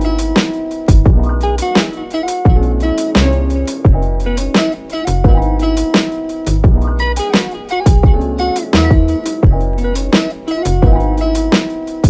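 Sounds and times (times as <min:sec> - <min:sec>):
upbeat electronic music: 0:00.0 - 0:12.0.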